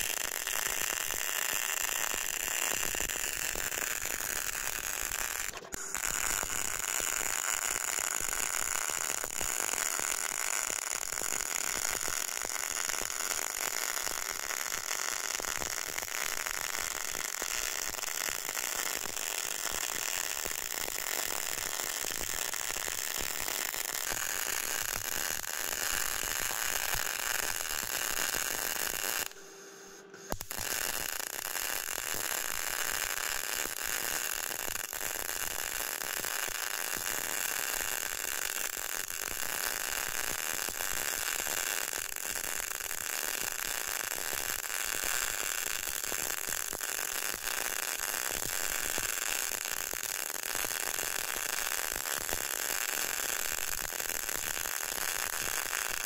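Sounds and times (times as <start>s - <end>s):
welding arc crackling hiss: 0.0s - 56.0s.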